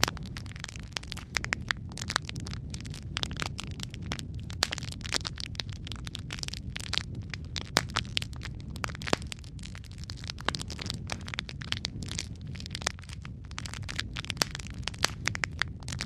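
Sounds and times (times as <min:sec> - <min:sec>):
fire crackling and popping: 0:00.0 - 0:16.0
low roar of flames: 0:00.0 - 0:16.0.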